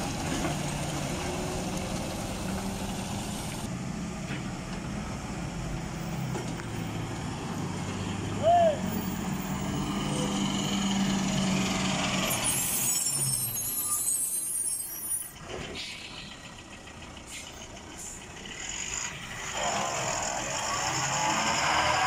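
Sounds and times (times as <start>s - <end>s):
lorry diesel engine: 0.0s - 22.0s.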